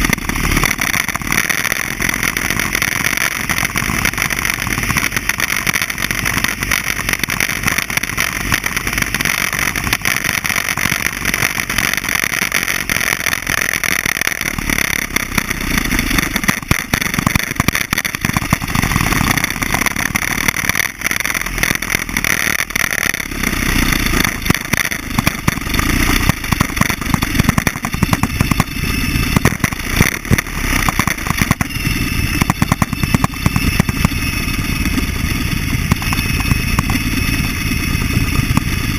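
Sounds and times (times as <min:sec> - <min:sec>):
motorcycle engine running: 0:00.0 - 0:38.9
rattle and rumble noise: 0:00.0 - 0:38.9.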